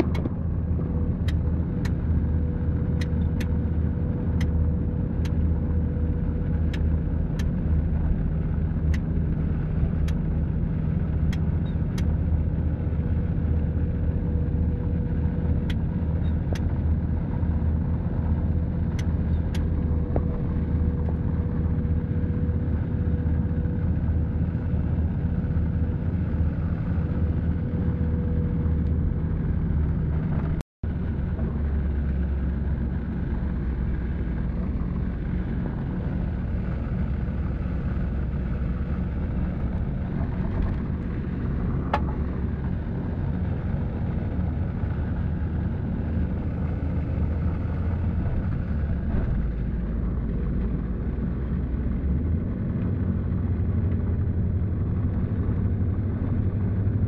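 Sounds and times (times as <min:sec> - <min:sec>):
vehicle engine and tyres rumbling: 0:00.0 - 0:57.0.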